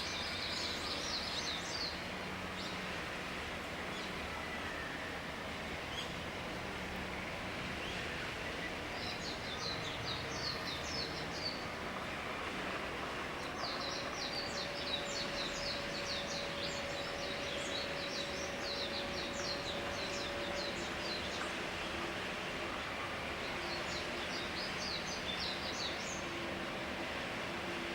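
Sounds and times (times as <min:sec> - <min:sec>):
steady background hiss: 0:00.0 - 0:27.9.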